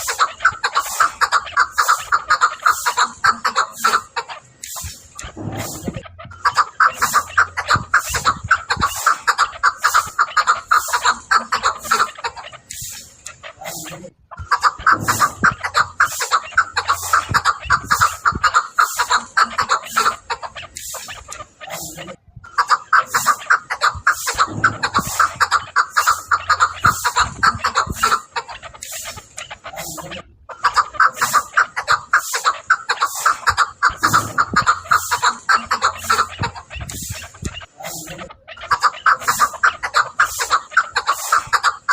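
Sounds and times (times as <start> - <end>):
partridge clucking calls: 0.0 - 41.9.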